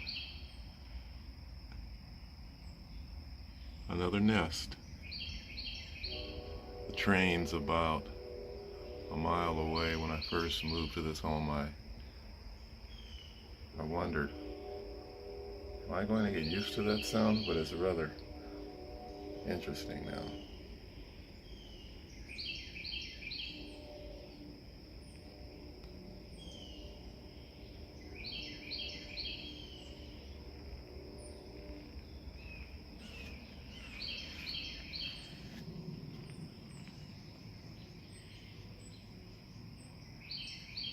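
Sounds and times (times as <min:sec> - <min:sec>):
distant train rumble: 0:00.0 - 0:40.9
high insect drone: 0:00.0 - 0:40.9
songbird singing: 0:00.0 - 0:40.9.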